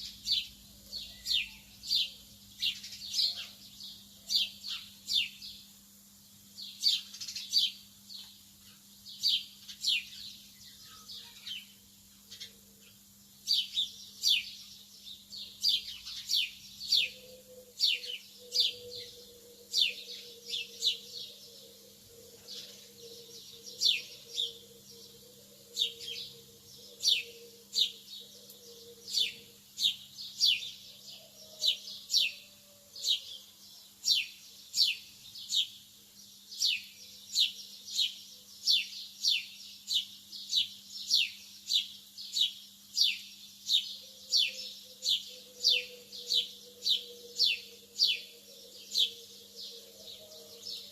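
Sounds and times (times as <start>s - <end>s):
lovebirds chirping: 0.0s - 5.7s, 6.4s - 50.9s.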